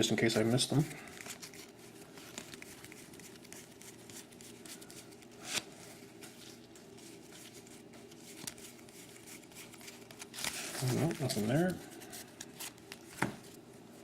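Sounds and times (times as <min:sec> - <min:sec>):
faint steady hum: 0:00.0 - 0:14.0
trading cards being flipped: 0:01.1 - 0:13.6.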